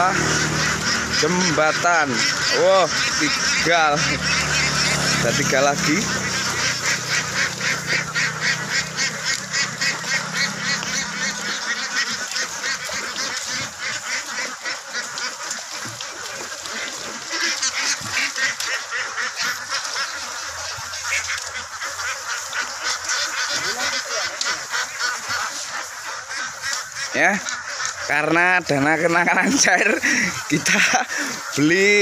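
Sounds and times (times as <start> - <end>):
ducks quacking: 0.0 - 32.0.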